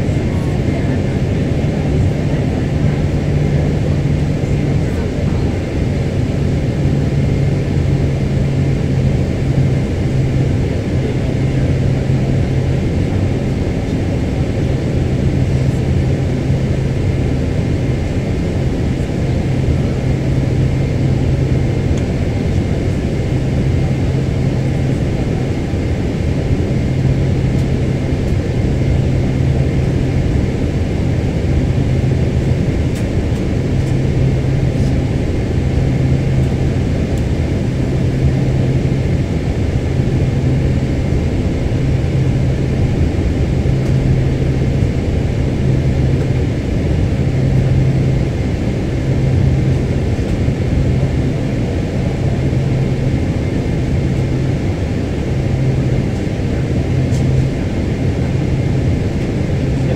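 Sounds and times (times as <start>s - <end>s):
airplane cabin rumble: 0.0s - 59.9s
pulsing low hum: 0.0s - 59.9s.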